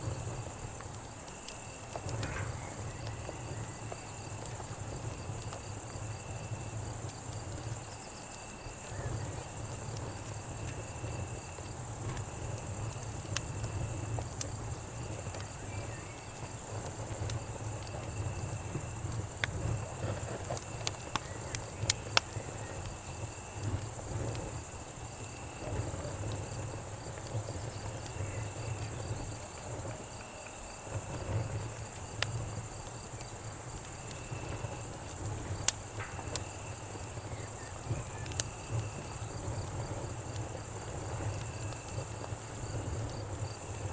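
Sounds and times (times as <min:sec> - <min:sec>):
campfire crackles: 0:00.0 - 0:43.9
crickets and cicadas chorus: 0:00.0 - 0:43.9
insect chirping: 0:00.0 - 0:43.9.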